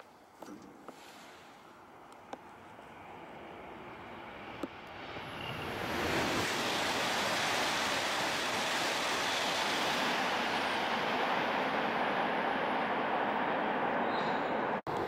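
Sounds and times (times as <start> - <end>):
high-speed train rushing: 2.7 - 15.0.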